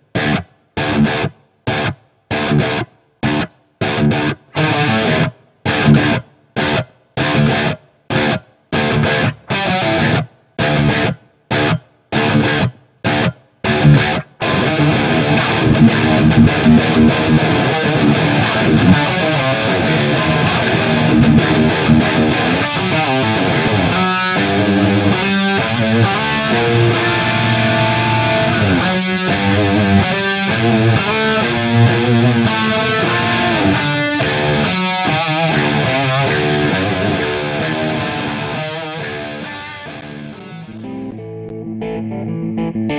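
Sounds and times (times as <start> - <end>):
electric guitar riff: 0.0 - 42.9.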